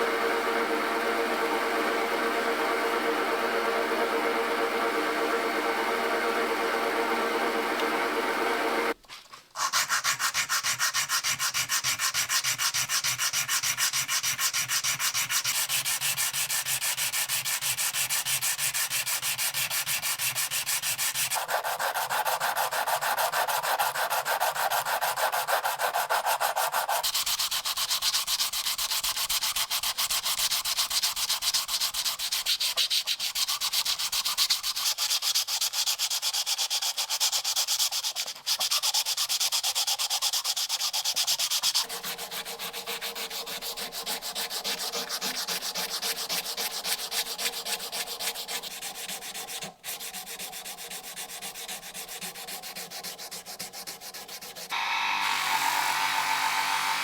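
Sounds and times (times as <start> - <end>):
hand sanding metal: 9.6 - 57.0.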